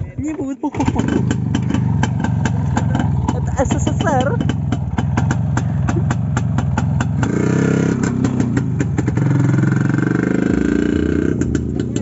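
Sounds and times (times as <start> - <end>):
two-stroke motorcycle engine revving: 0.7 - 12.0.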